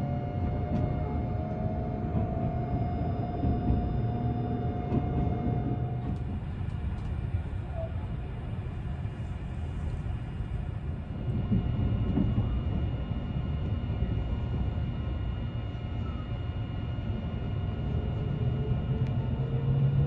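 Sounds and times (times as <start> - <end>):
train low rumble: 0.0 - 20.0.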